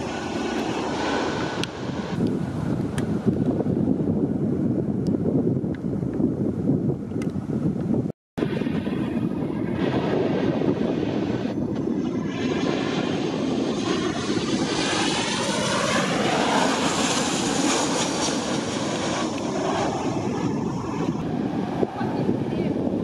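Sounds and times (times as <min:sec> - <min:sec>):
jet airliner passing overhead: 0:00.0 - 0:05.1, 0:08.4 - 0:23.0.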